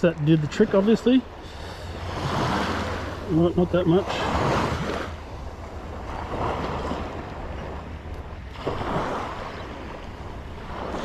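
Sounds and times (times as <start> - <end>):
wind rumble on microphone: 0.0 - 11.0
shallow water sloshing around legs: 0.2 - 11.0.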